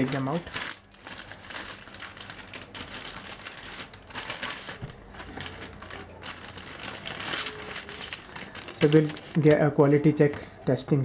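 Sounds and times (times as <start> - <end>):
plastic bag crinkling: 0.0 - 9.6
papers rustling: 0.0 - 9.7.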